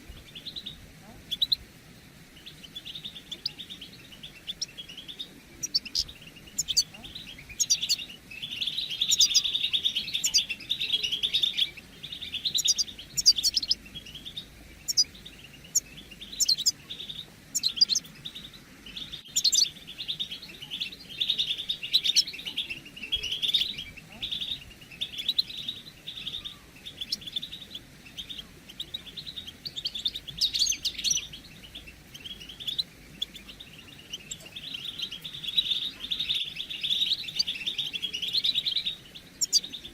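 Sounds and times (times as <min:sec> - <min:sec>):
goldfinches twittering: 0:00.0 - 0:01.7, 0:02.3 - 0:39.9.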